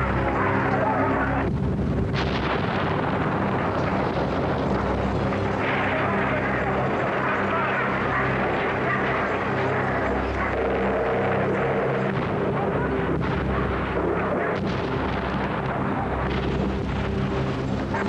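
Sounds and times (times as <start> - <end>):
gunfire and explosions: 0.0 - 18.0
steady low drone: 0.0 - 18.0.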